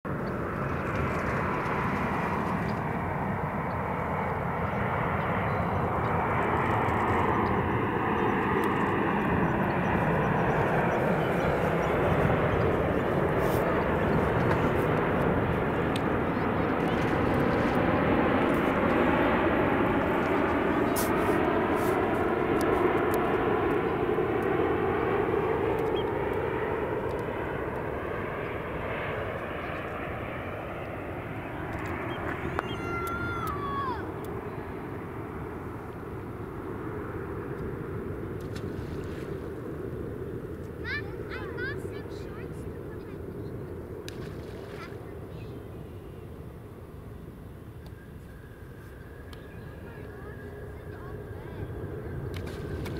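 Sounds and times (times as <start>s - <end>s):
airliner jet engines: 0.1s - 52.9s.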